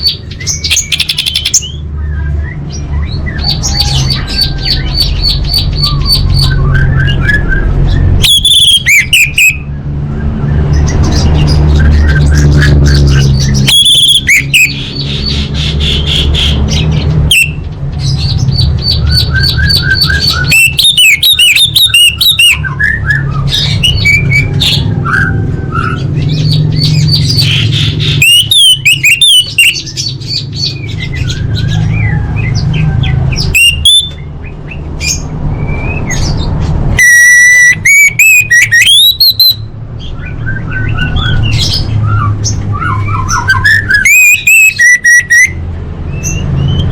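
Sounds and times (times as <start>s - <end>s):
thrush chirping and trilling: 0.0s - 46.9s.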